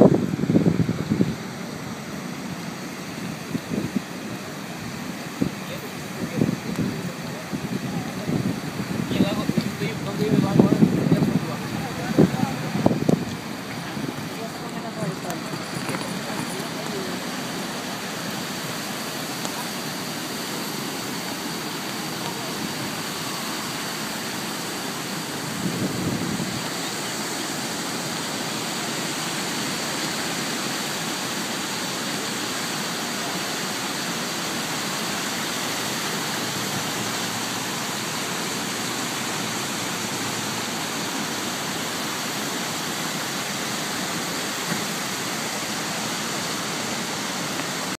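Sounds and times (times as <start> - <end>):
river water rushing over rocks: 0.0 - 48.0.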